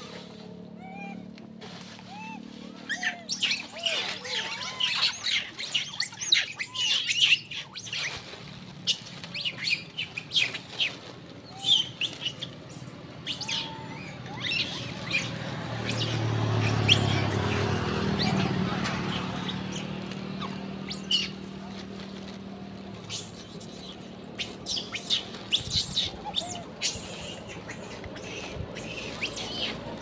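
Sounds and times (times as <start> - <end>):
monkeys squeaky chirps: 0.7 - 1.3, 2.1 - 22.2, 23.0 - 30.0.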